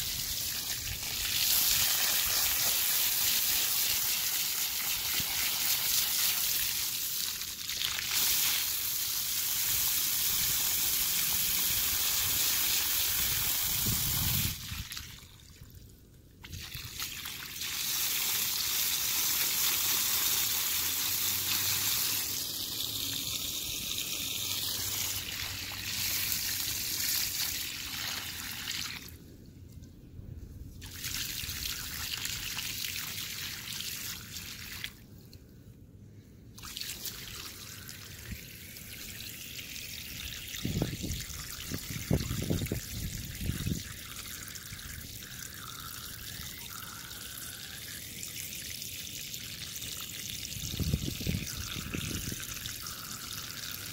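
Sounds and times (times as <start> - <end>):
water spraying from garden hose: 0.0 - 15.2, 16.4 - 29.2, 36.6 - 53.9.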